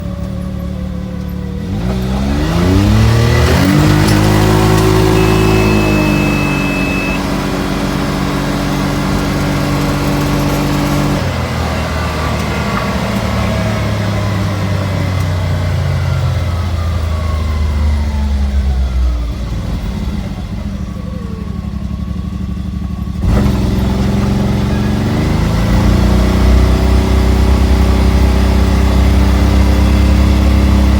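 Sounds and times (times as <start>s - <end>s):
vehicle engine misfiring: 0.0s - 30.9s.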